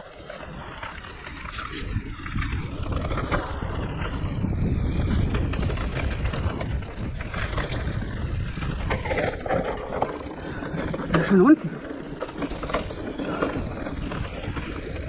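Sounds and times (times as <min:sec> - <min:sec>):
tyres over dirt: 0:00.0 - 0:15.0
wind on microphone: 0:00.3 - 0:11.5, 0:12.2 - 0:15.0
bike knocks and rattles: 0:00.7 - 0:15.0.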